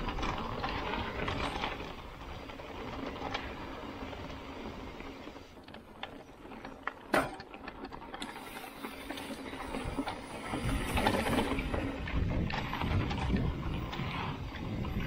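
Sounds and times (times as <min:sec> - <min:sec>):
bike rattling and clicking: 0:00.0 - 0:15.0
tyres rumbling on ground: 0:00.0 - 0:15.0.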